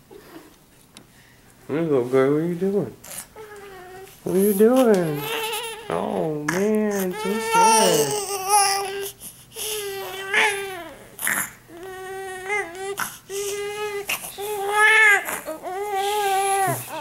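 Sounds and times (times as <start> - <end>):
newborn baby crying: 3.0 - 17.0.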